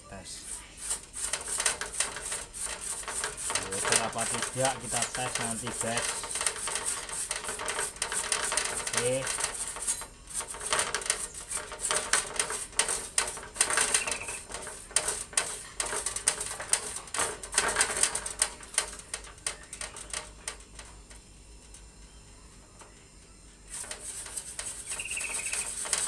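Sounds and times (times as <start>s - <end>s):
rapid clicking and tapping: 0.8s - 21.8s, 23.7s - 26.0s.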